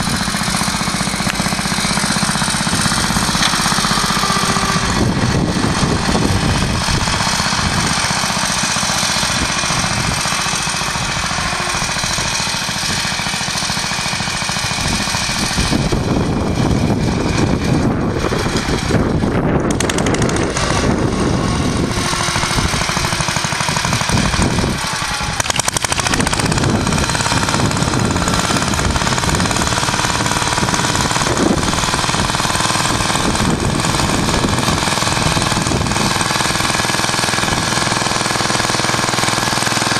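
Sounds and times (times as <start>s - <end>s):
tractor engine pulsing exhaust: 0.0s - 39.9s.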